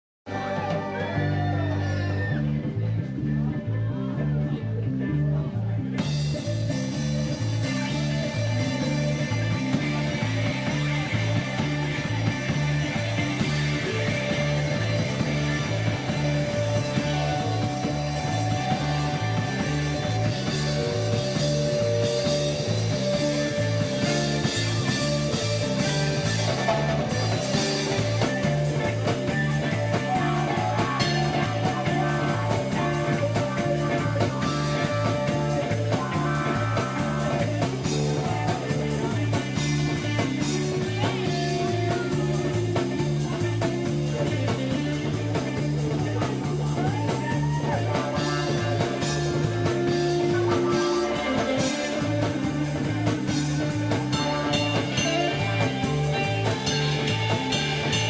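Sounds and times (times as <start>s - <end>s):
drums: 0.3s - 58.0s
electric guitar: 0.3s - 58.0s
repeating bass line: 0.3s - 58.0s.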